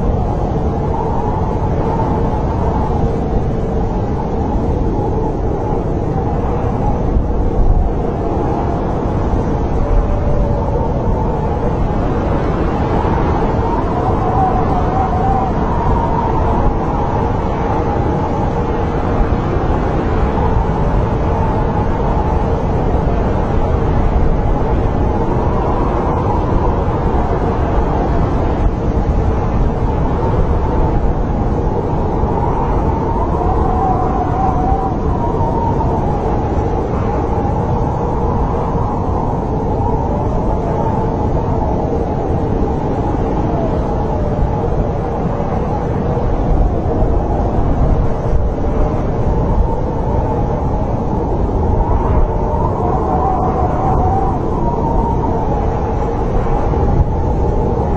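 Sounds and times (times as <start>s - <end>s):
howling wind whistle: 0.0s - 57.9s
wind rumbling: 0.0s - 57.9s.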